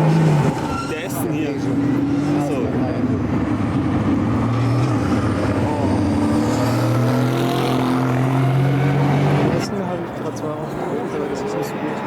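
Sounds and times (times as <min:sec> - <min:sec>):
car accelerating: 0:00.0 - 0:09.8
race car engines at speed: 0:00.0 - 0:12.0.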